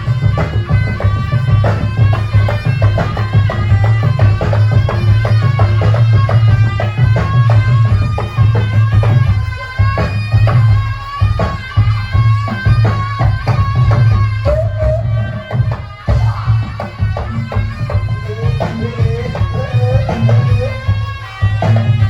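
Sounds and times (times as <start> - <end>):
high-pitched wind instrument melody: 0.0 - 22.0
quick drum strokes: 0.0 - 22.0.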